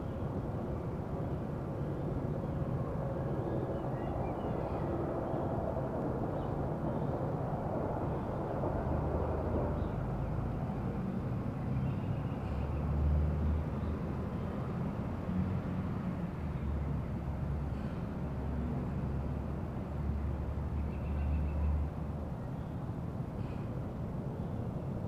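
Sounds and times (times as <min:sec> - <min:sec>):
low outdoor background rumble: 0:00.0 - 0:25.0.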